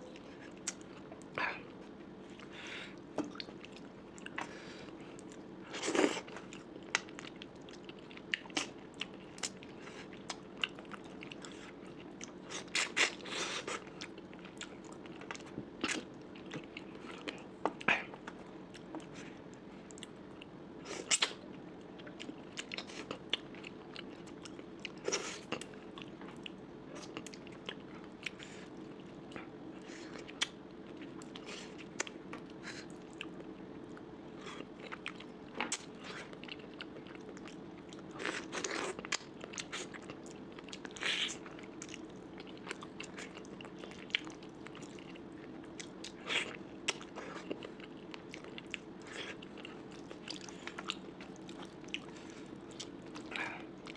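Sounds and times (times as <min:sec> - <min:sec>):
person chewing and crunching food: 0:00.0 - 0:53.9
steady low hum: 0:00.0 - 0:53.9.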